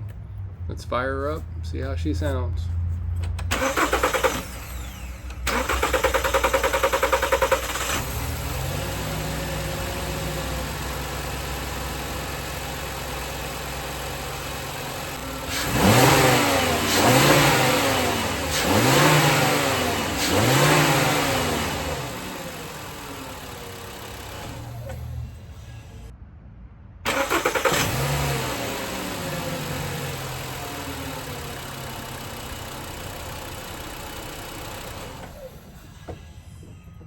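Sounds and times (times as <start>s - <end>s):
car engine idling: 0.0s - 26.1s, 27.1s - 37.0s
engine revving: 2.4s - 26.1s, 27.1s - 36.7s
engine cranking on starter: 3.2s - 26.1s, 27.1s - 37.0s.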